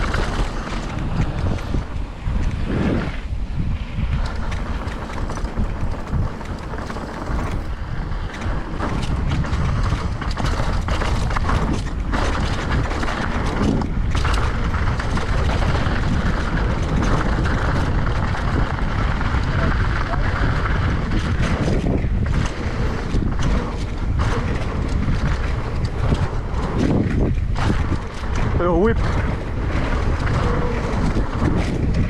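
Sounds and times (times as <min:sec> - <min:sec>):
mountain bike rattling on trail: 0:00.0 - 0:32.0
wind buffeting microphone: 0:00.0 - 0:32.0.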